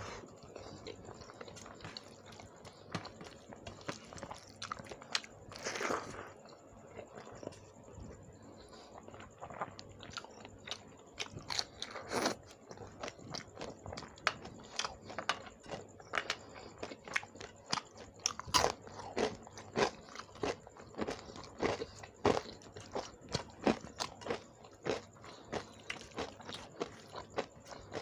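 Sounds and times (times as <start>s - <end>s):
chewing and crunching food: 0.0s - 28.0s.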